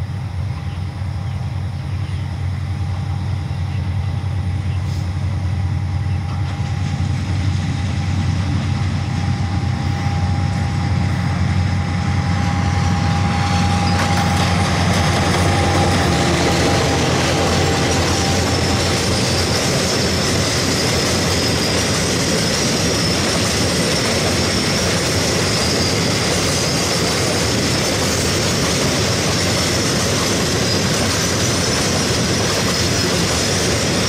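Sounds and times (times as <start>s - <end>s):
diesel locomotive engine drone: 0.0s - 34.0s
train wheels on rail joints: 0.0s - 34.0s.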